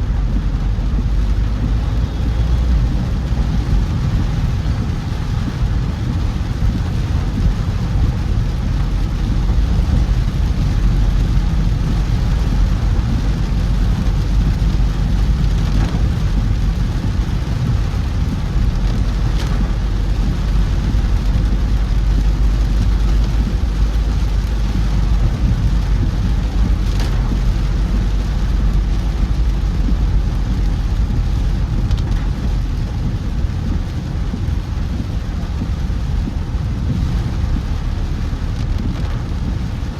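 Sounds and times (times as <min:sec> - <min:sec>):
rain hiss: 0:00.0 - 0:39.9
road and engine rumble: 0:00.0 - 0:39.9.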